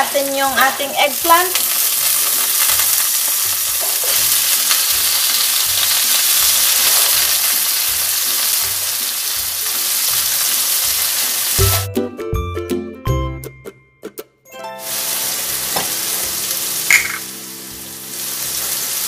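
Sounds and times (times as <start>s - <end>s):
eggplant frying in hot oil: 0.0s - 11.8s, 14.8s - 19.0s.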